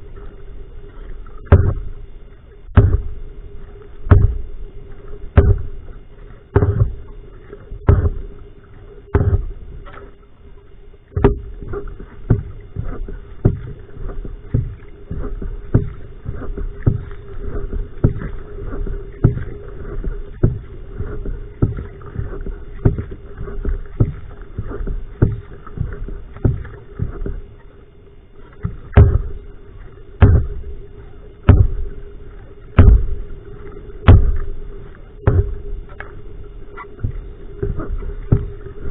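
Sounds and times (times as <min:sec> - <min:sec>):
canoe paddle strokes splashing: 0:00.0 - 0:38.9
steady hum: 0:00.0 - 0:38.9.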